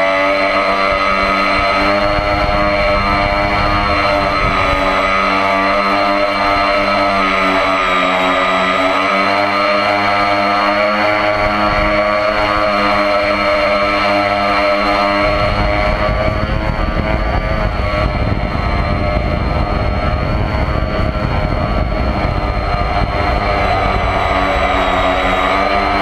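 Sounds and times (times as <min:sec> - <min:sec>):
model airplane motor whining: 0:00.0 - 0:26.0
wind noise on microphone: 0:00.0 - 0:26.0.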